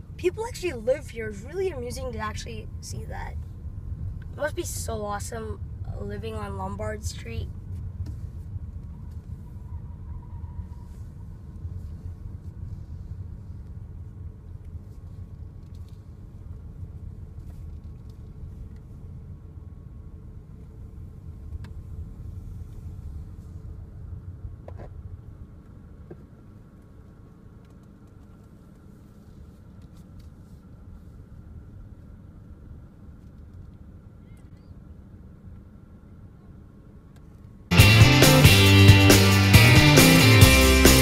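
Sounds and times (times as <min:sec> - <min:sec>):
car driving slowly: 0:00.0 - 0:41.0.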